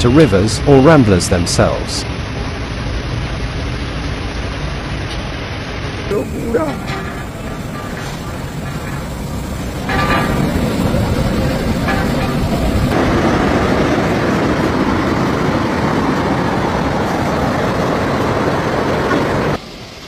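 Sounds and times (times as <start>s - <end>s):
floodwater rushing: 2.1s - 20.0s.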